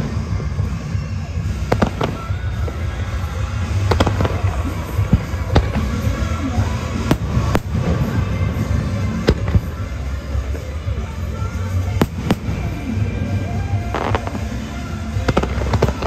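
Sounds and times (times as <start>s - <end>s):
fireworks bangs: 0.0s - 16.0s
loud music: 0.0s - 16.0s.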